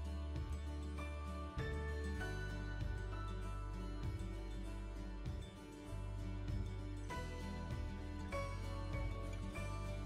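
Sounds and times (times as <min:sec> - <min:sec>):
bass line: 0:00.0 - 0:10.0
plucked string melody: 0:00.0 - 0:10.0.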